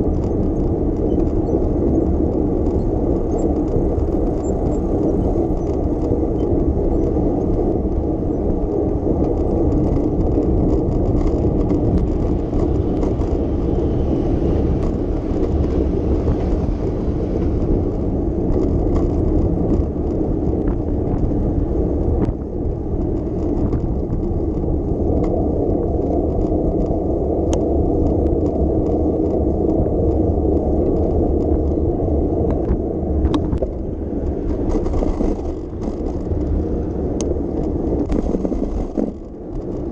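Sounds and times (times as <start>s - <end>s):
bicycle clicks and rattles: 0.0s - 39.9s
bicycle riding rumble: 0.0s - 39.9s.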